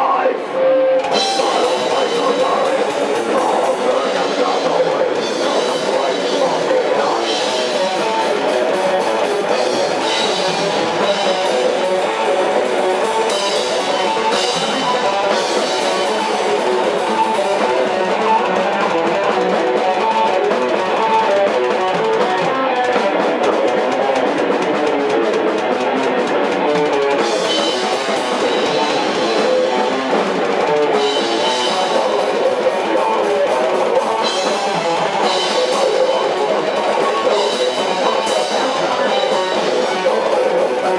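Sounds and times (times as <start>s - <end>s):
rock music with guitar and drums: 0.0s - 40.9s.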